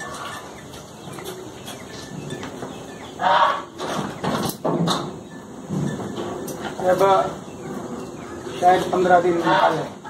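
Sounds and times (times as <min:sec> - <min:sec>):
bird calling: 0:00.0 - 0:10.0
low farmyard background: 0:00.0 - 0:10.0.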